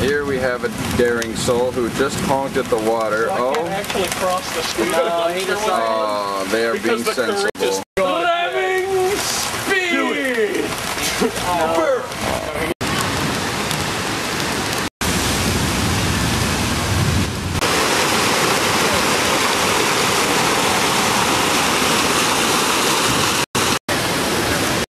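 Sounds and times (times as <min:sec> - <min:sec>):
floodwater rushing over rocks: 0:00.0 - 0:24.9.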